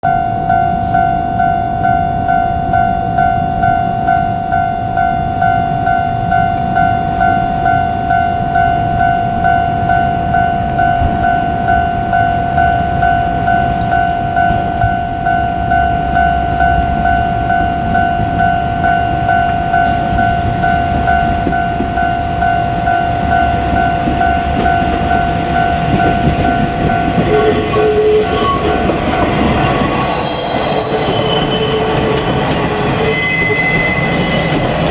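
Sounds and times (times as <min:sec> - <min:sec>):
level-crossing alarm ringing: 0:00.0 - 0:34.9
low rumble of a train: 0:00.0 - 0:34.9.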